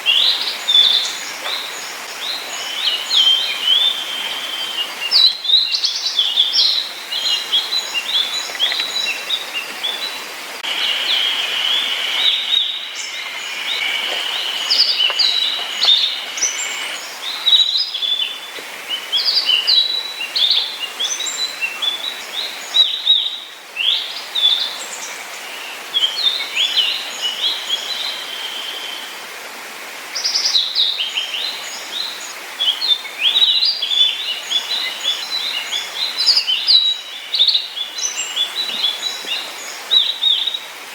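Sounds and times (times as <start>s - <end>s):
songbirds chirping and singing: 0.0s - 28.6s, 30.6s - 40.7s.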